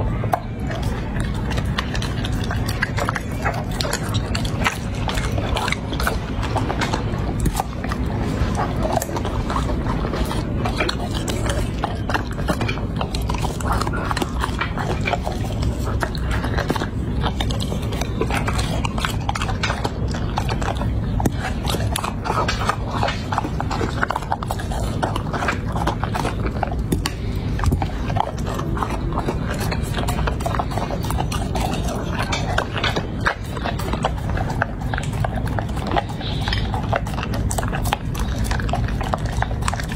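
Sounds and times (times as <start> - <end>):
dog crunching food: 0.0 - 39.9
dog licking a dish: 0.0 - 39.9
wet mouth sounds: 0.0 - 39.9.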